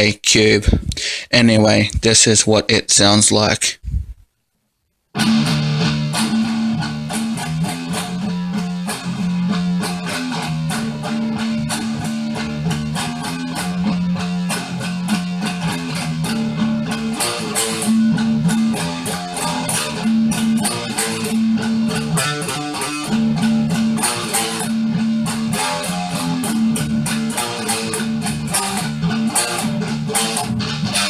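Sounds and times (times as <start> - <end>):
distorted electric guitar: 5.1 - 31.0.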